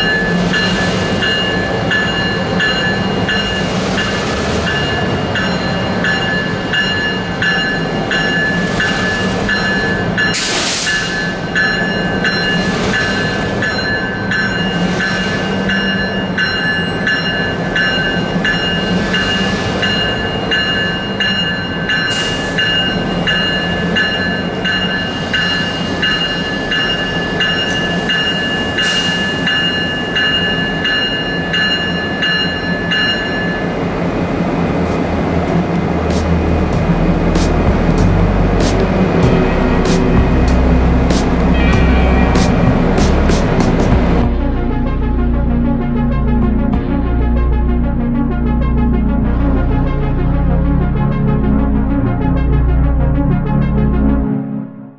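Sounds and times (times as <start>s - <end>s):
train wheels clicking over rail joints: 0.0s - 44.3s.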